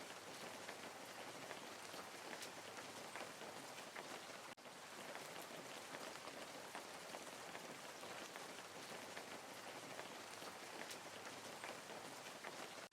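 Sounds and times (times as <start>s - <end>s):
rain falling: 0.0s - 12.9s.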